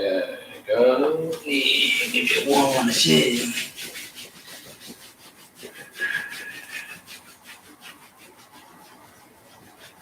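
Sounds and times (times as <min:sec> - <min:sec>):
hands rubbing along shins: 0:01.3 - 0:10.0.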